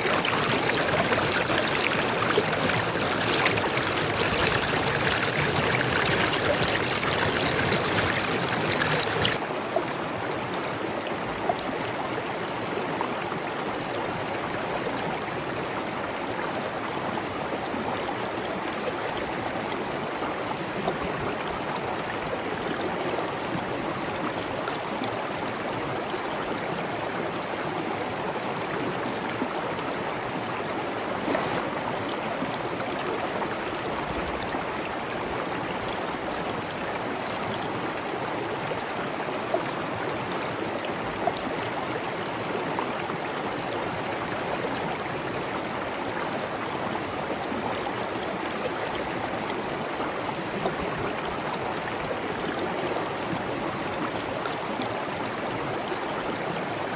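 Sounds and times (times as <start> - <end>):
stream babbling and splashing: 0.0 - 56.9.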